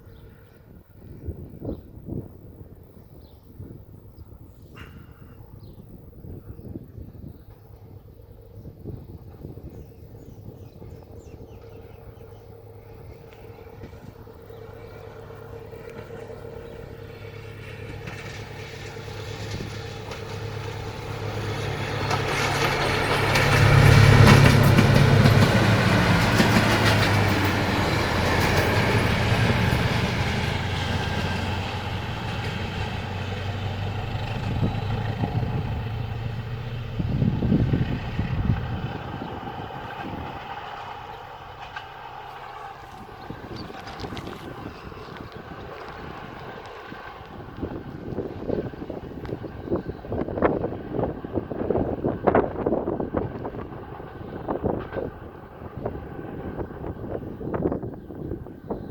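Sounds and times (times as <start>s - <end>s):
diesel train engine and wheels: 0.0s - 58.9s
low rumble: 7.4s - 58.9s.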